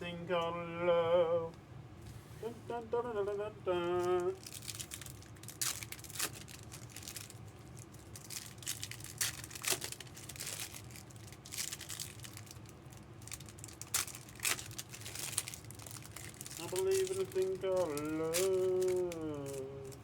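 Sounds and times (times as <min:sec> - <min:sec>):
foil wrappers crinkling: 0:03.9 - 0:20.0.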